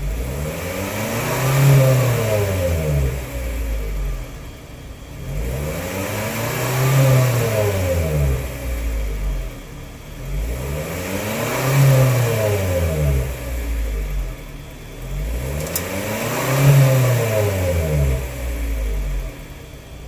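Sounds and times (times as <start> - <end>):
van engine revving: 0.0 - 20.0.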